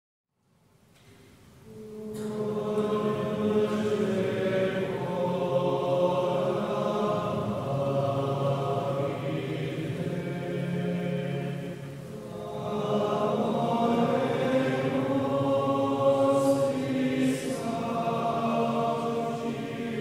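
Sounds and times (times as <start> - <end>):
male choir singing a hymn: 1.7 - 20.0.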